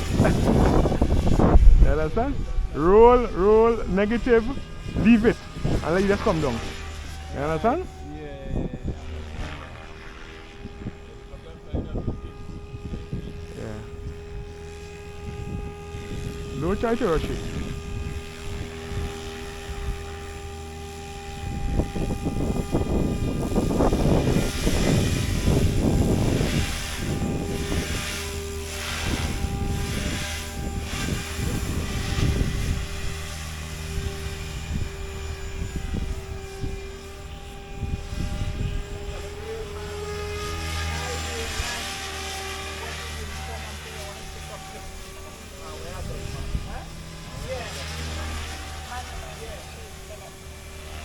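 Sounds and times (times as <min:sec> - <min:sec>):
rc helicopter whine: 0:00.0 - 0:51.0.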